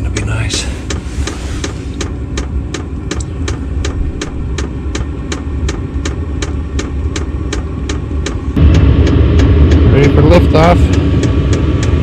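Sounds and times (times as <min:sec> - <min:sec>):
fuel pump ticking: 0:00.2 - 0:12.0.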